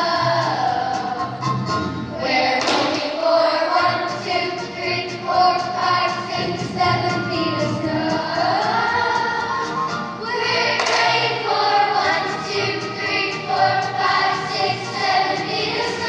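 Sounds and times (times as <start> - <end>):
children's chorus singing: 0.0 - 1.5, 2.1 - 16.0
instrumental accompaniment: 0.0 - 16.0.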